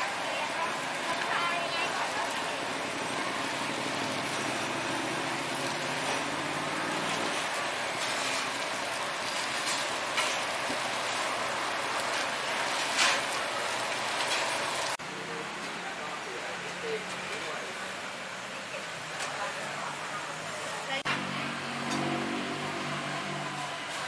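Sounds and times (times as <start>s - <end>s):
hiss of fans and cooking: 0.0s - 24.0s.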